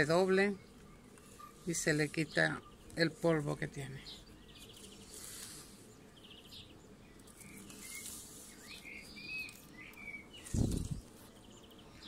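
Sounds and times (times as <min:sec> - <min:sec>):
small birds chirping and trilling: 0:00.0 - 0:12.0.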